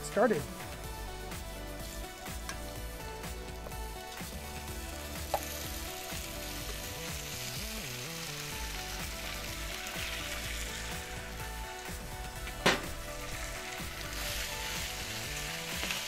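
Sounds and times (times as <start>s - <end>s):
meat sizzling on a hot griddle: 0.8s - 16.0s.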